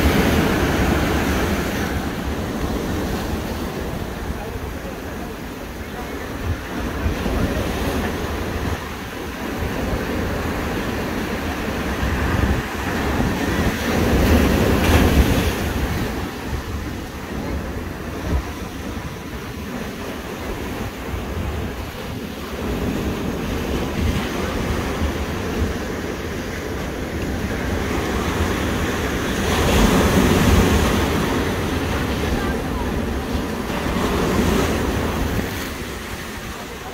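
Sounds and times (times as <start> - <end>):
ocean surf over rocks: 0.0 - 36.9
wind rumbling on microphone: 0.0 - 36.9.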